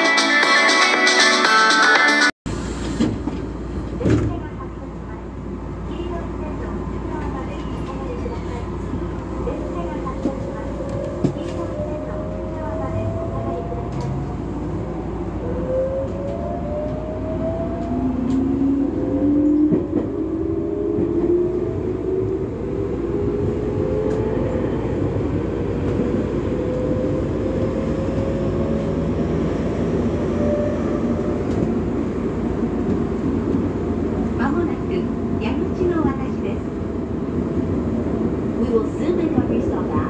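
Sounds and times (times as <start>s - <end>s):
train rumble on rails: 2.5s - 40.0s.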